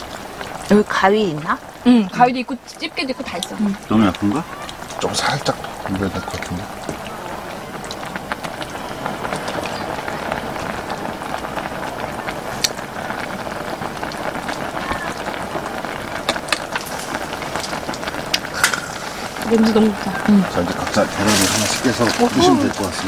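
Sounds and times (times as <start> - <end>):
food sizzling in a pot: 0.0 - 23.0.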